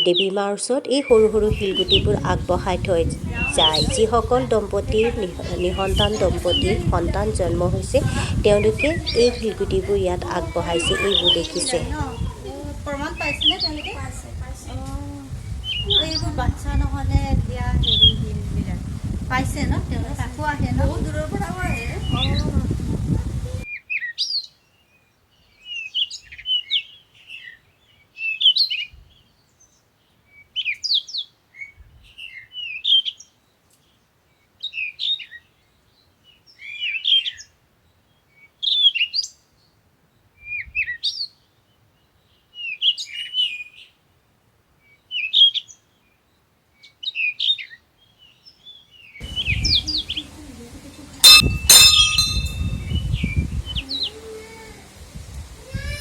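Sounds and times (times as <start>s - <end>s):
small birds chirping: 0.0s - 44.0s, 44.8s - 54.4s
outdoor background noise: 0.0s - 56.0s.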